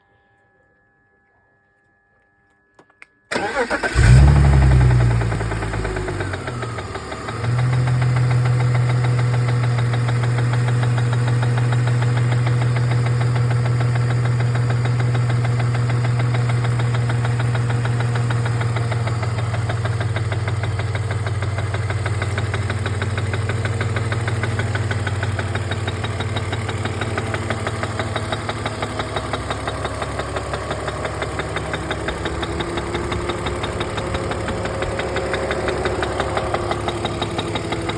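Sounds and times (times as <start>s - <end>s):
engine tapping: 3.3s - 37.9s
car engine revving and idling: 3.4s - 37.9s.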